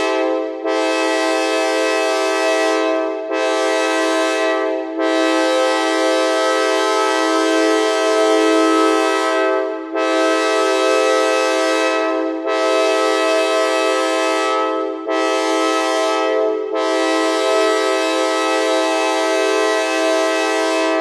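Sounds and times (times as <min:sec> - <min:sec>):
synthesizer chord like train horn: 0:00.0 - 0:21.0.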